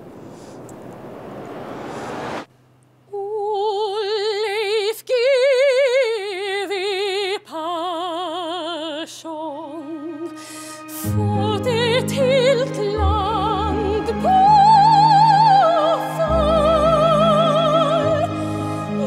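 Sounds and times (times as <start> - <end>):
woman singing opera: 3.1 - 19.0.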